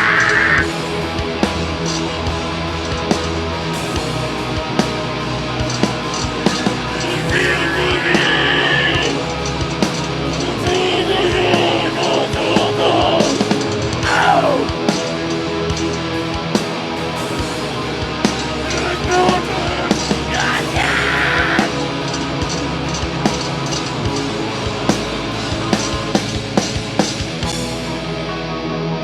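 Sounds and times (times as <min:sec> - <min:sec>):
bass guitar: 0:00.0 - 0:29.0
distorted guitars: 0:00.0 - 0:29.0.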